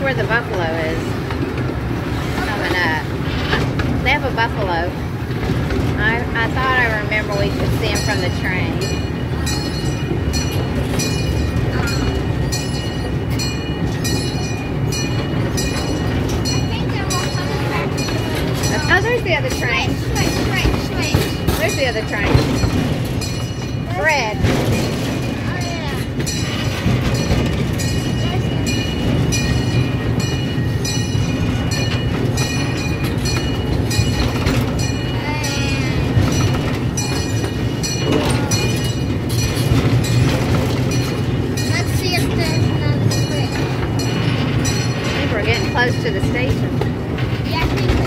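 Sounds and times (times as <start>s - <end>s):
train rumbling on track: 0.0s - 48.0s.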